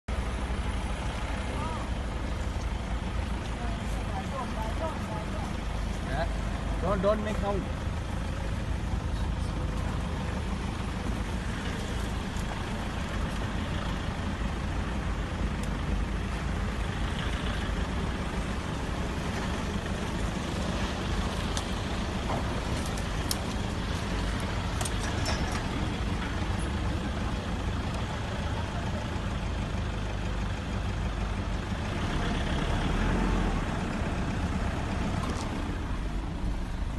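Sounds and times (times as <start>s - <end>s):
jeep engines idling: 0.1s - 36.9s.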